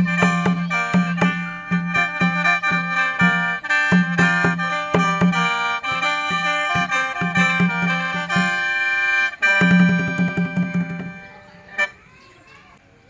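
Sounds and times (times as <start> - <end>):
free-reed mouth organ melody: 0.0 - 12.0.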